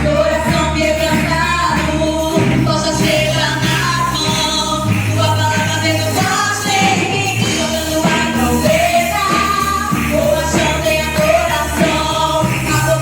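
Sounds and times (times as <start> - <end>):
band playing worship song: 0.0 - 13.0
person singing: 0.0 - 13.0.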